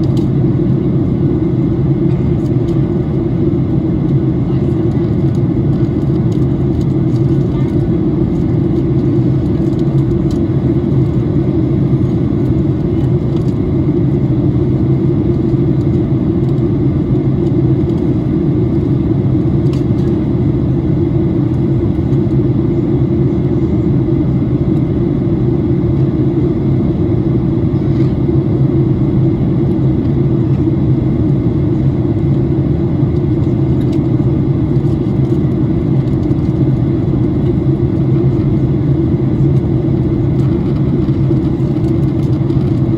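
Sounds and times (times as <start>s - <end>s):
airplane cabin engine drone: 0.0s - 42.9s.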